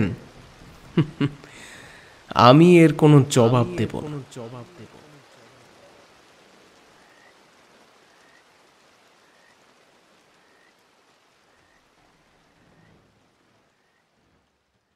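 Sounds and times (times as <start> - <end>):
rain hiss: 0.0 - 14.9.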